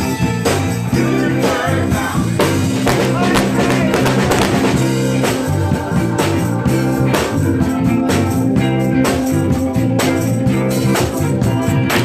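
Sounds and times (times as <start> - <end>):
instrumental band music: 0.0 - 12.0.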